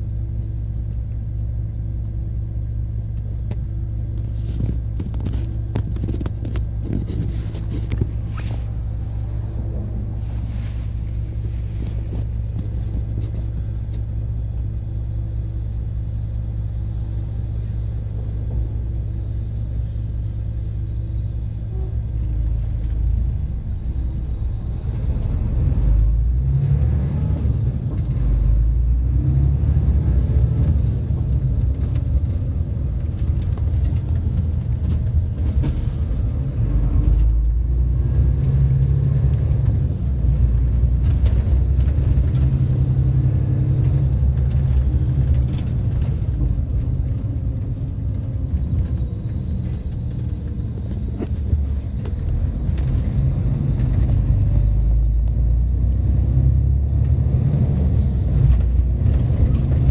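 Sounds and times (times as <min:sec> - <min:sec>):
lorry engine running: 0:00.0 - 0:59.9
road rumble: 0:00.0 - 0:59.9.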